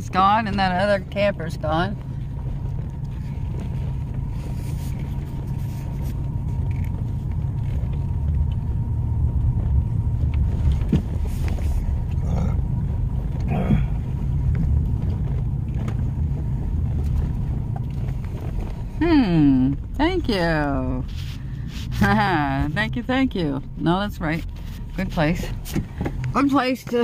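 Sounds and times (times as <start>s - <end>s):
truck road and engine rumble: 0.0s - 27.0s.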